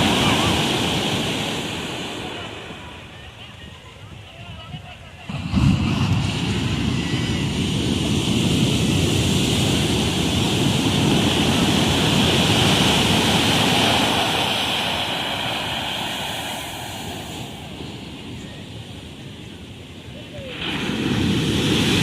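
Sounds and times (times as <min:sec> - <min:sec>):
sea waves surging up a beach: 0:00.0 - 0:22.0
wind rumbling on microphone: 0:00.0 - 0:22.0.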